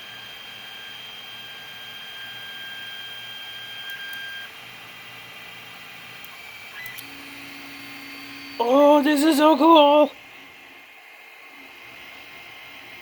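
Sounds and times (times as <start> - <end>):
printer motors whining: 0.0 - 13.0.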